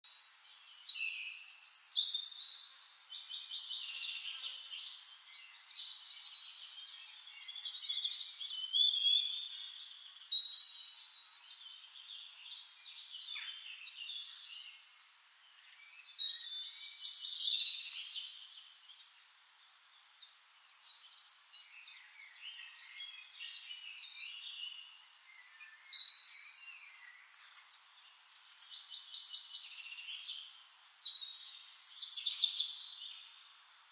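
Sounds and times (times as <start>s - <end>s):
songbirds singing: 0.0s - 33.9s.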